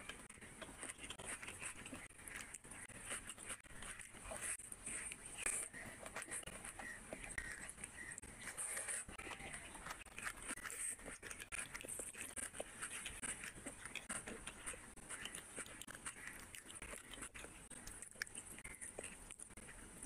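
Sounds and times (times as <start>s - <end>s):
fingers squishing rice: 0.0s - 20.0s
wet chewing and lip smacks: 0.0s - 20.0s.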